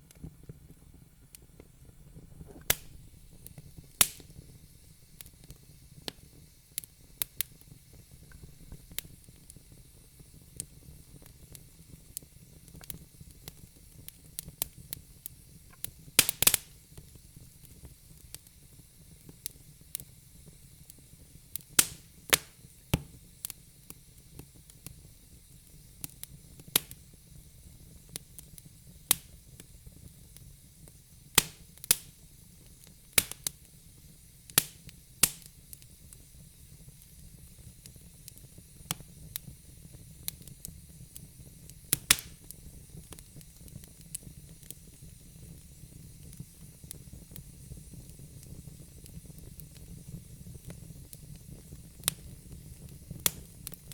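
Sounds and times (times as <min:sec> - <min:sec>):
fire pops and crackles: 0:00.0 - 0:53.9
low rumble and hiss of flames: 0:00.0 - 0:53.9.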